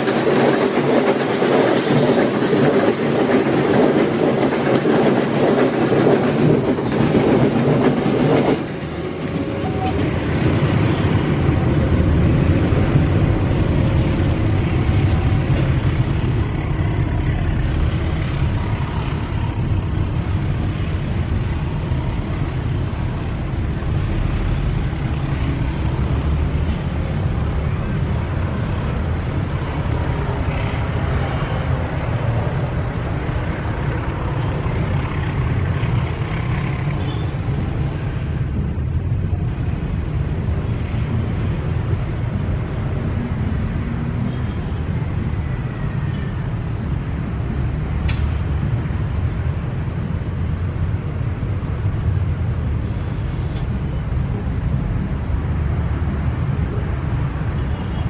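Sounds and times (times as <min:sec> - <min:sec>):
vehicles driving past: 0:06.3 - 0:58.0.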